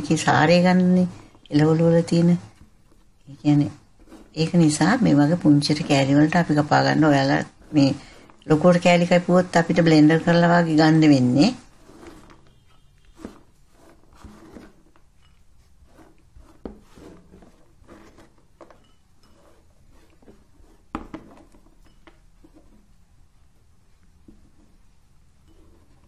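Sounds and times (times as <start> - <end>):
carrot sticks scraping on cutting board: 0.0 - 23.0.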